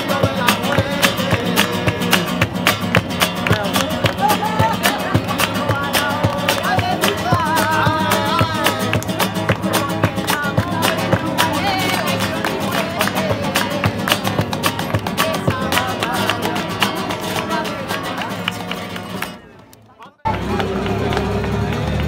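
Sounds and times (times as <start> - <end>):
person singing: 0.0 - 2.7, 3.3 - 19.1
acoustic guitar strummed rhythmically: 0.0 - 19.6
hand-clapping in time: 0.0 - 22.0.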